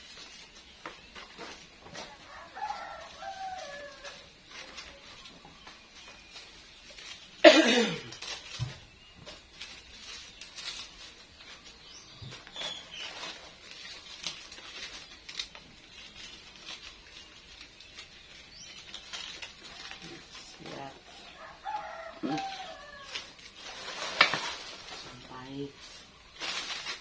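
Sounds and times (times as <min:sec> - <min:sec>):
banana leaves crinkling: 0:00.0 - 0:27.0.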